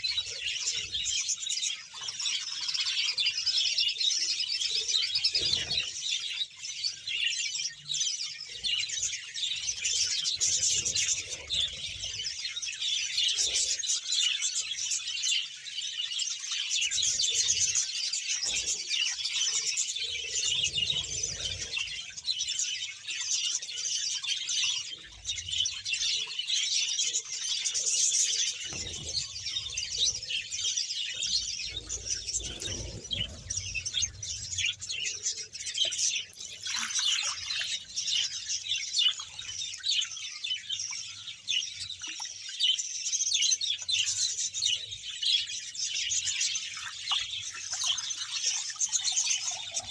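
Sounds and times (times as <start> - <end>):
budgerigars chattering and chirping: 0.0 - 49.9.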